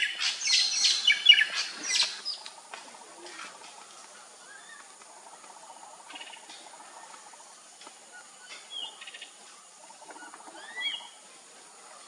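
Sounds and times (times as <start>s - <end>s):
high-pitched insect hum: 0.0s - 12.0s.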